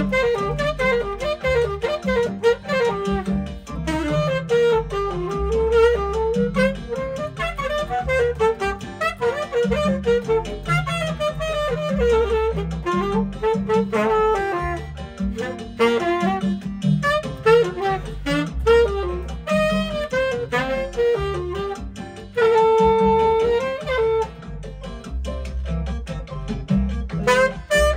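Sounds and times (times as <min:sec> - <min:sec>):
backing track with bass and chords: 0:00.0 - 0:27.9
saxophone melody: 0:00.0 - 0:27.9.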